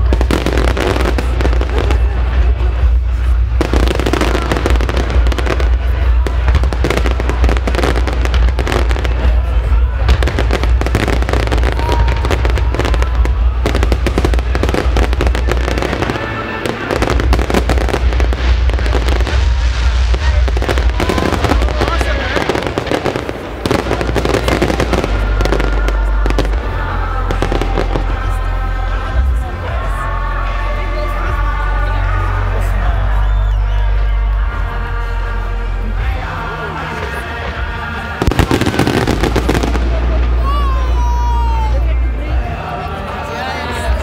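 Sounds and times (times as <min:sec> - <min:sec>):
fireworks bursts and crackles: 0:00.0 - 0:44.0
heavy low rumble: 0:00.0 - 0:44.0.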